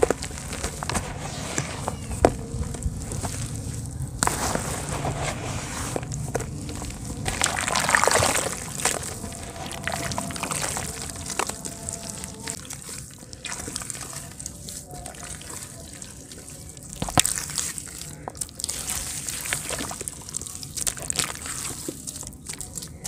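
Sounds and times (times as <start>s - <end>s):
hands squelching wet mud: 0.0s - 23.0s
small crackles of crumbling dirt: 0.0s - 23.0s.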